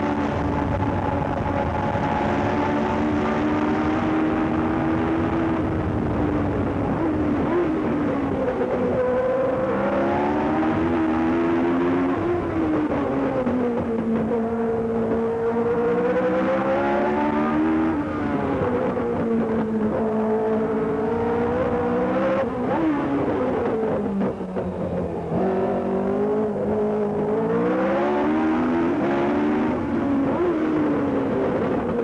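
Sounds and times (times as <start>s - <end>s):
racing car engine revving: 0.0s - 32.0s.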